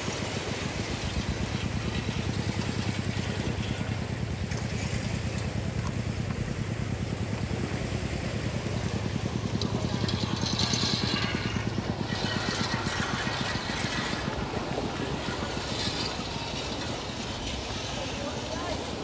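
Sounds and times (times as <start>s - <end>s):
small engine puttering: 0.0s - 19.0s.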